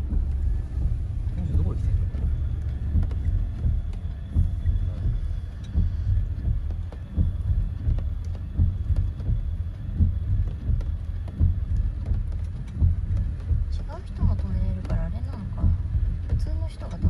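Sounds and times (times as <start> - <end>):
low uneven rumble: 0.0 - 17.0
rain on a car roof: 0.0 - 17.0.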